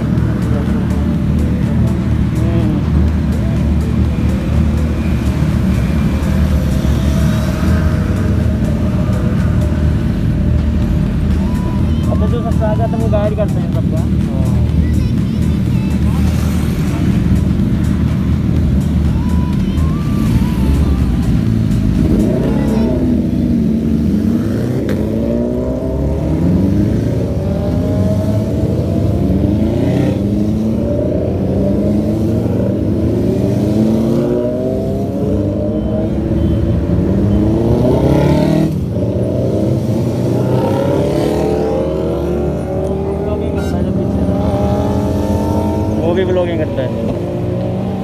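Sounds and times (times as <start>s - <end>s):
motorcycle engines accelerating: 0.0s - 48.0s
road rumble: 0.0s - 48.0s.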